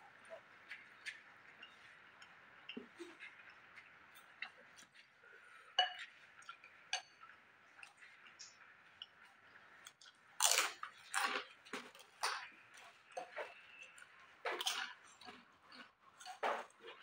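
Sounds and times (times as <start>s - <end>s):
person chewing noodles: 0.7s - 17.0s.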